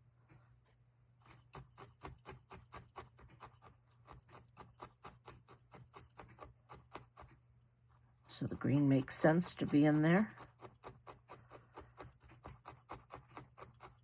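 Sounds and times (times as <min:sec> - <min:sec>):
felting needle poking wool: 0:00.7 - 0:07.7, 0:08.3 - 0:14.0.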